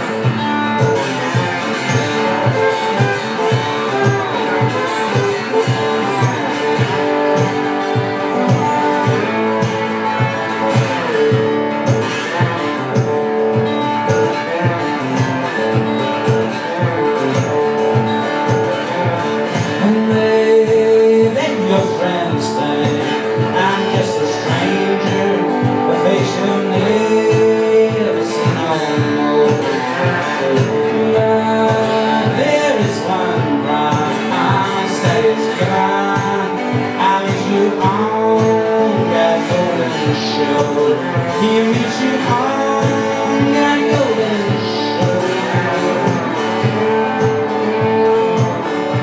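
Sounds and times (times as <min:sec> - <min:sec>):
guitar music: 0:00.0 - 0:49.0
person singing: 0:00.0 - 0:49.0.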